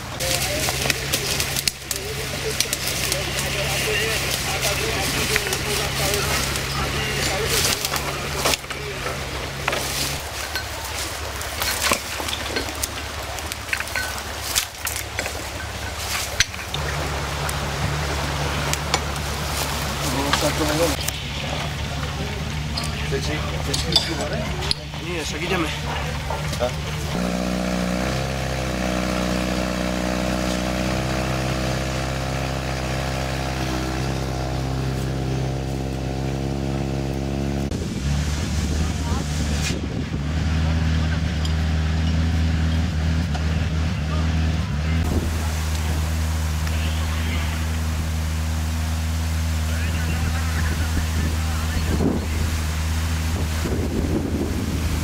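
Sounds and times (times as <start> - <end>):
engine humming: 0.0 - 55.0.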